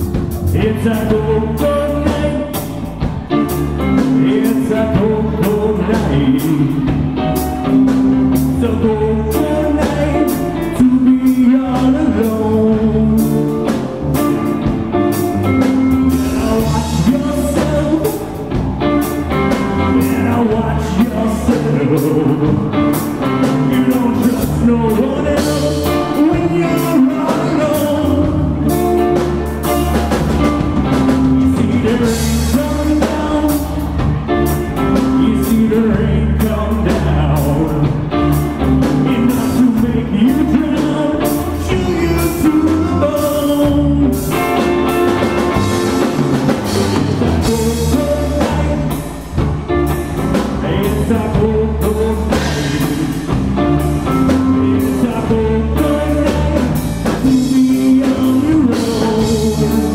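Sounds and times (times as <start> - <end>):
drum kit: 0.0 - 59.9
electric bass: 0.0 - 59.9
electric guitar: 0.0 - 59.9.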